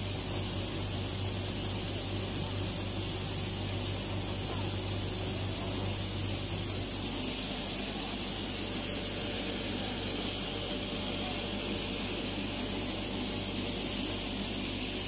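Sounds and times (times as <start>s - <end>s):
flour milling machine hum: 0.0s - 15.0s
high hiss: 0.0s - 15.0s.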